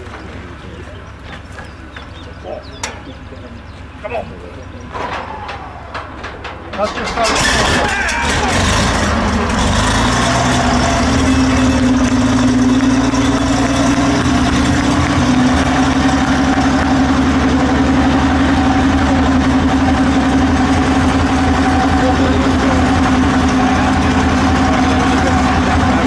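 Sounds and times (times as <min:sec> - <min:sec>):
tank engine idling: 0:00.0 - 0:26.0.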